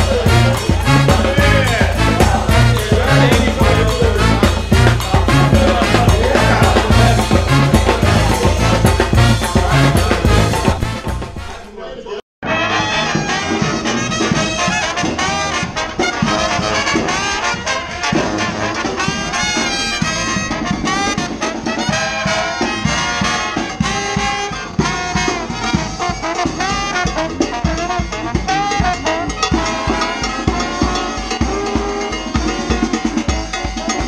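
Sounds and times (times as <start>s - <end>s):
steady drum beat: 0.0s - 11.6s, 12.9s - 34.0s
trombones and trumpets: 0.0s - 11.8s, 12.4s - 34.0s.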